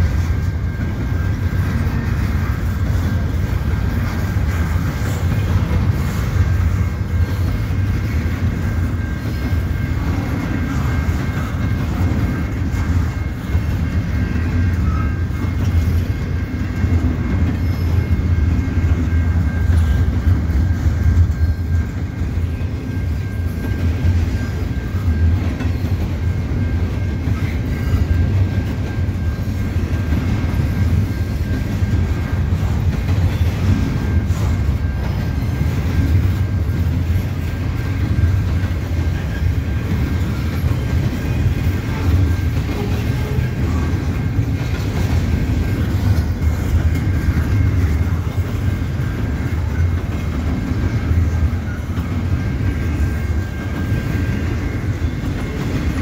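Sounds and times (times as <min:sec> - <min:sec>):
freight train rumble: 0:00.0 - 0:56.0
wheels clacking over rail joints: 0:00.0 - 0:56.0.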